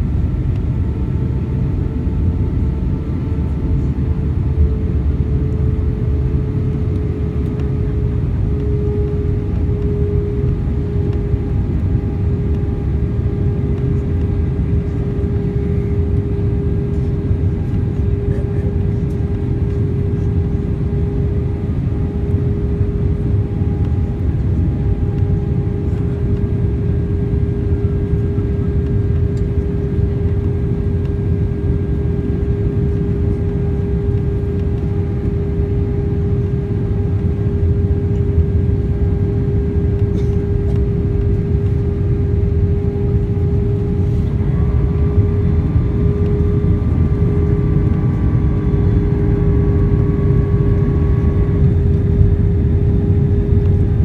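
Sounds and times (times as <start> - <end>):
aircraft cabin rumble: 0.0 - 54.0
constant hum: 0.0 - 54.0.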